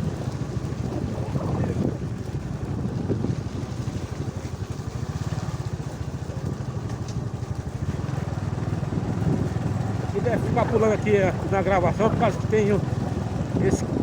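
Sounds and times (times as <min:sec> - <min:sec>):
small vehicle engine running: 0:00.0 - 0:14.0.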